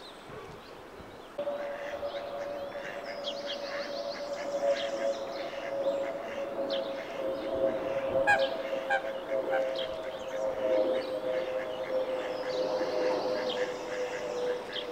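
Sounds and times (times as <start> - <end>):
songbird trilling: 1.1 - 14.9
steady droning hum: 1.3 - 14.9
ducklings peeping: 1.4 - 14.9.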